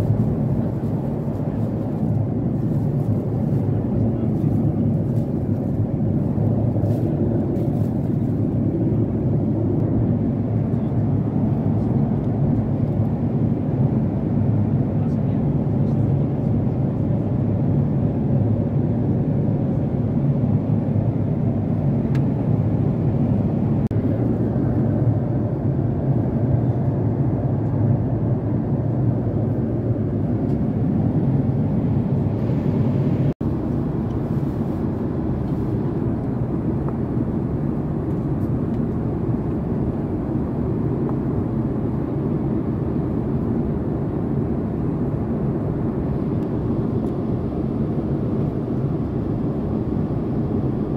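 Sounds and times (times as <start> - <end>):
airliner cabin roar: 0.0 - 50.9.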